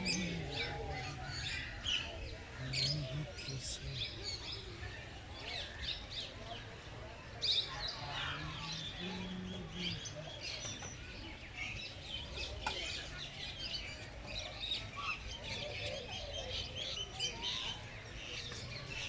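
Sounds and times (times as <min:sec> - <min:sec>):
small birds chirping: 0:00.0 - 0:06.7, 0:07.4 - 0:19.0.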